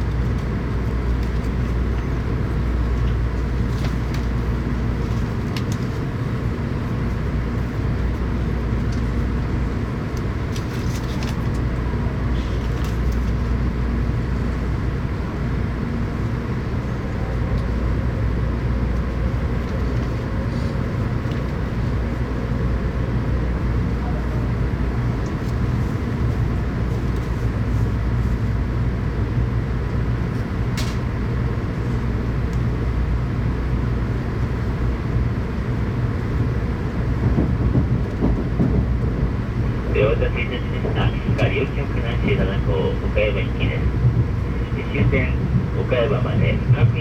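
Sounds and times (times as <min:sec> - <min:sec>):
train running rumble inside car: 0:00.0 - 0:47.0.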